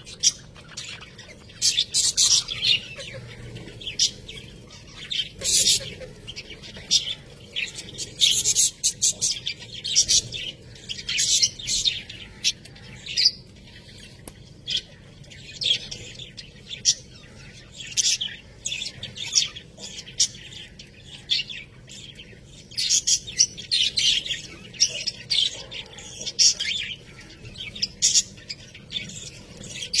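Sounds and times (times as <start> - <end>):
budgerigars chirping and warbling: 0.0 - 30.0.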